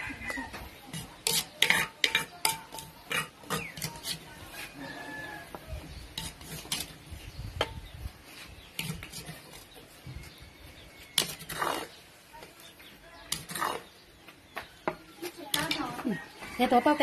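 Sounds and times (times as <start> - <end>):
spoon scraping clay mortar: 0.1 - 14.2, 14.9 - 16.4.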